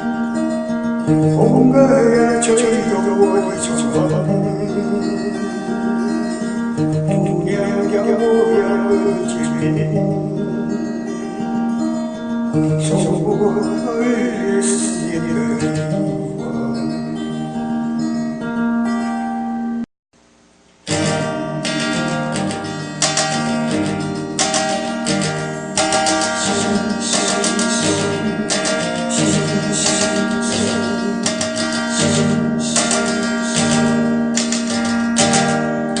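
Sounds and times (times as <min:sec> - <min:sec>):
acoustic guitar strumming: 0:00.0 - 0:19.9, 0:20.8 - 0:36.0.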